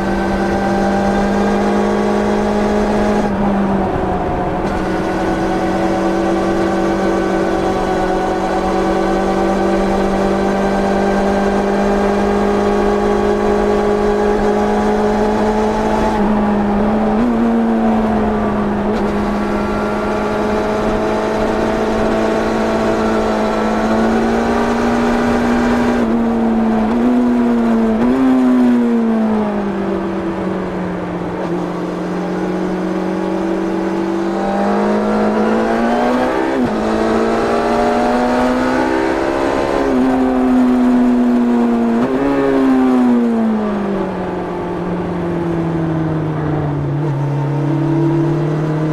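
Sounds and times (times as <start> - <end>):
motorcycle engine running hard: 0.0 - 48.9.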